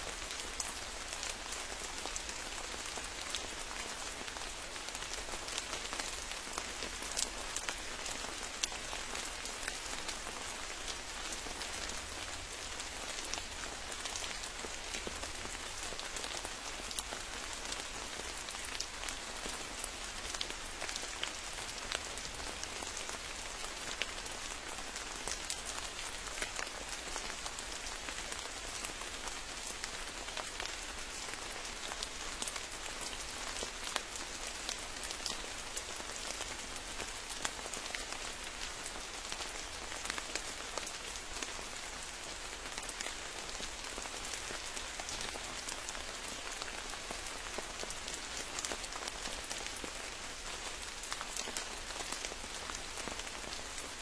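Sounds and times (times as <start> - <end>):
rain hissing in a forest: 0.0 - 54.0.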